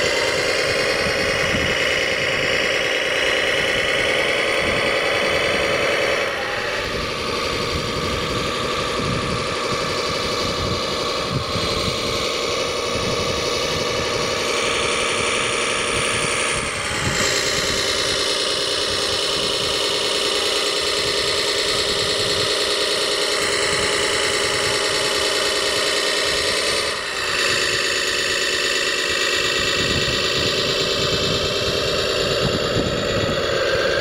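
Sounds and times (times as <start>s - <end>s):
toy truck motors whining: 0.0s - 34.0s.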